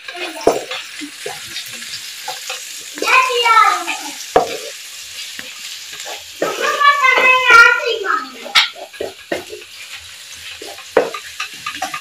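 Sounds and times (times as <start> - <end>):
food sizzling in oil: 0.0 - 12.0
spatula knocking pan: 0.0 - 12.0
spatula scraping wok: 0.0 - 12.0.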